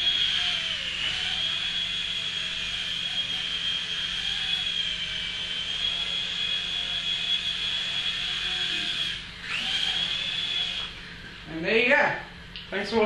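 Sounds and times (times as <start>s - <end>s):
rc helicopter rotor whine: 0.0s - 11.2s.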